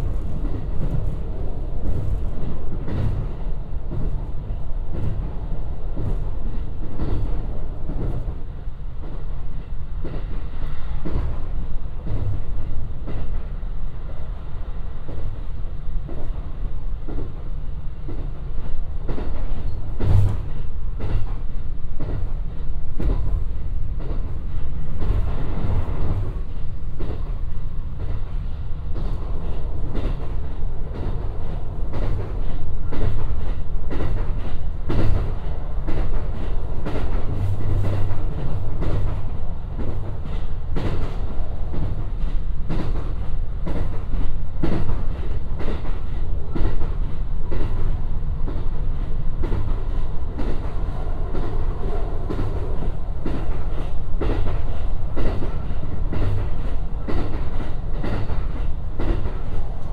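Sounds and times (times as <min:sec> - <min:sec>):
train interior low rumble: 0:00.0 - 0:59.9.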